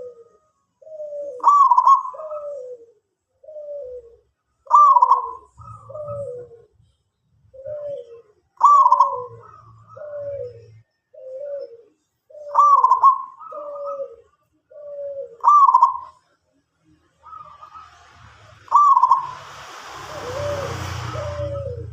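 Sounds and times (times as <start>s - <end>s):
dove cooing: 0.0s - 6.8s, 7.5s - 16.3s, 17.2s - 21.9s.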